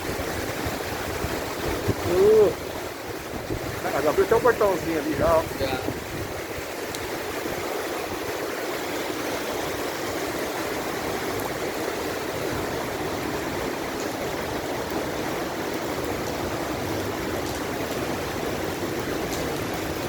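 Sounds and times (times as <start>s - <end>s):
heavy rain pouring: 0.0s - 20.0s
rushing water: 0.0s - 20.0s.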